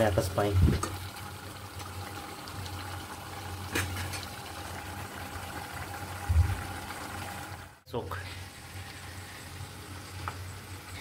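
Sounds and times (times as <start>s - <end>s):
curry simmering in a pan: 0.0s - 11.0s.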